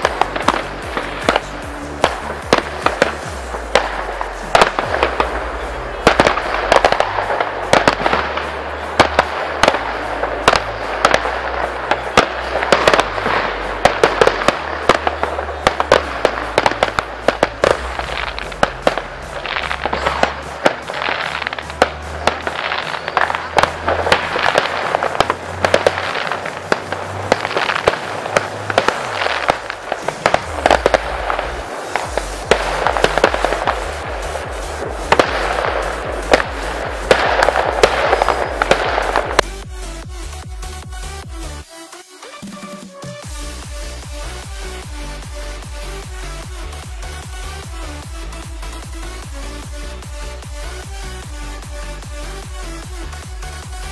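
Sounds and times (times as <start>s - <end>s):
electronic dance music: 0.0s - 53.9s
fireworks bangs and crackles: 0.0s - 53.9s.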